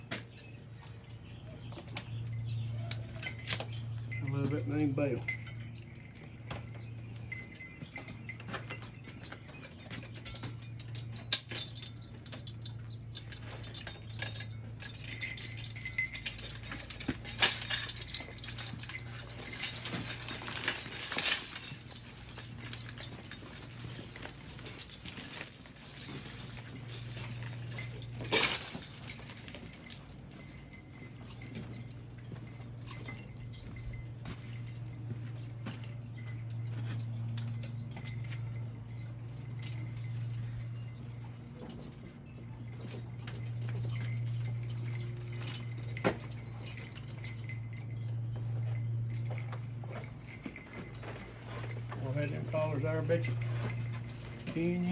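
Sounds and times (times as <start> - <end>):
harness hardware jingling: 0.0 - 54.9
steady low hum: 0.0 - 54.9.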